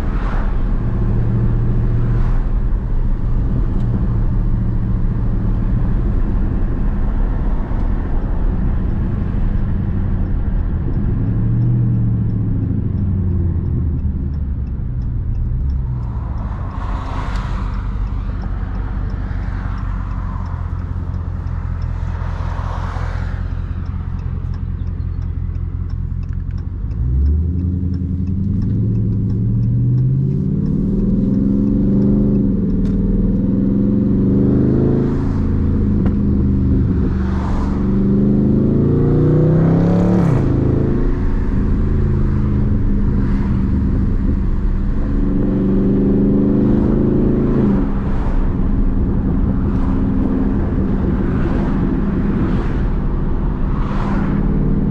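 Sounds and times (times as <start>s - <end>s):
car engine revving while cruising: 0.0s - 54.9s.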